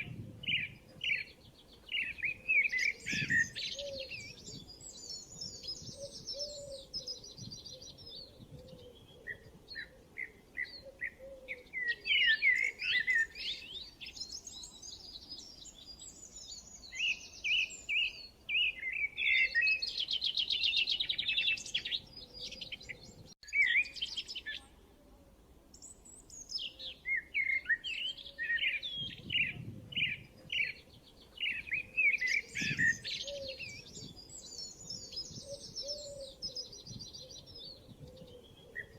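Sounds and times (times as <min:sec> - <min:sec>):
songbirds singing and chirping: 0:00.0 - 0:24.8, 0:25.4 - 0:38.9.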